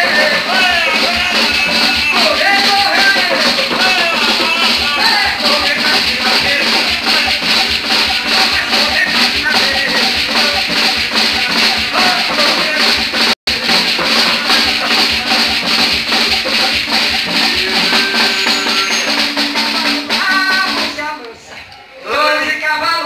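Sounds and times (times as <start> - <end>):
chanted singing: 0.0 - 21.0
maracas shaking: 0.0 - 21.0
steady drumming: 0.0 - 21.2.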